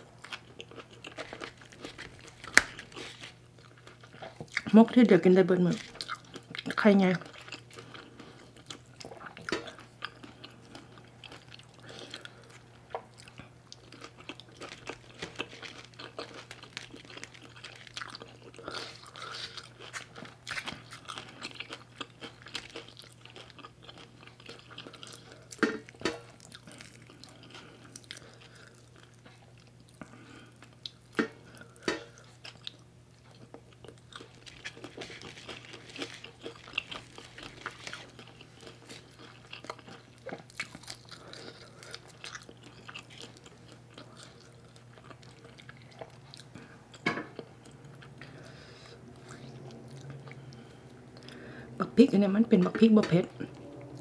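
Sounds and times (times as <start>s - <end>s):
person chewing with wet mouth sounds: 0.0s - 4.8s, 5.5s - 51.8s.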